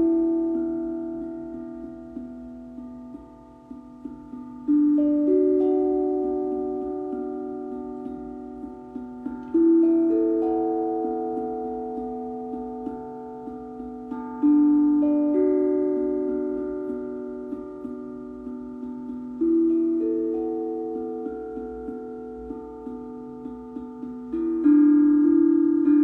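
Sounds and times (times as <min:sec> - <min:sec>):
steel tongue drum notes ringing: 0:00.0 - 0:26.0.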